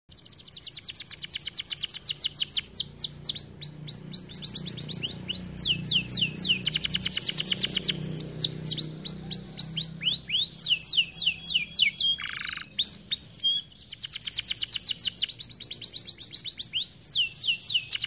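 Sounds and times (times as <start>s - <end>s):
canary singing: 0.1s - 18.0s.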